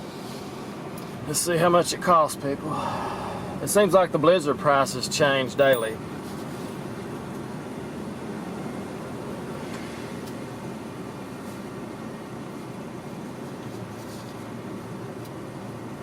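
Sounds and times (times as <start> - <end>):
car engine rumble inside cabin: 0.0 - 16.0.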